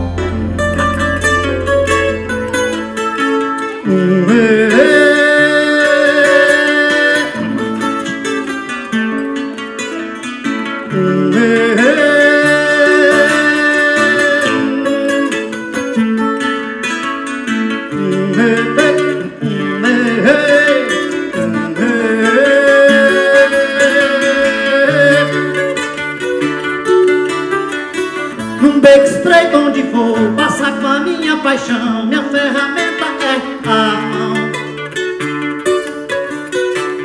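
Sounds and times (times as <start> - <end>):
guitar picked melody over chords: 0.0 - 37.0.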